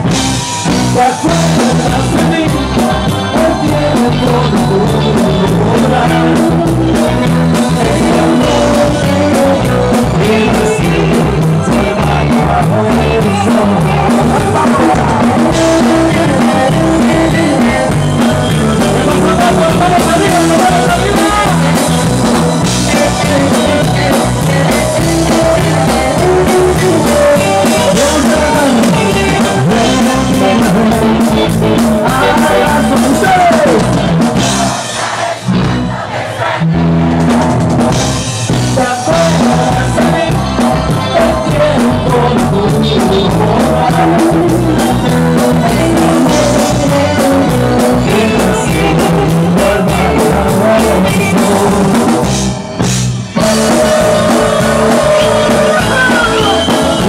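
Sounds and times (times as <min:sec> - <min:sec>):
person singing: 0:00.0 - 0:35.8, 0:36.4 - 0:52.6, 0:53.3 - 0:57.0
drum kit: 0:00.0 - 0:57.0
electric guitars: 0:00.0 - 0:57.0
keyboard: 0:00.0 - 0:57.0.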